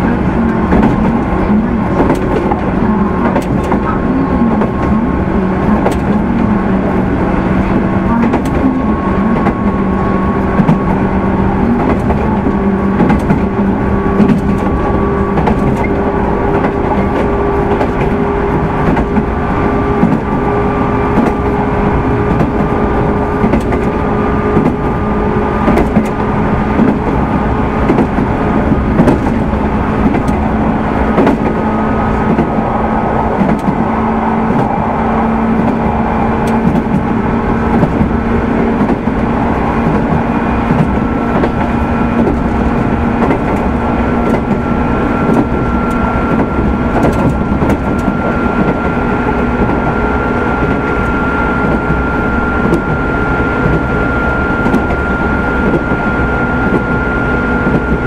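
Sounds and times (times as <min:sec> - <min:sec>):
train traction motor whine: 0:00.0 - 0:58.0
wheels rumbling on rail: 0:00.0 - 0:58.0.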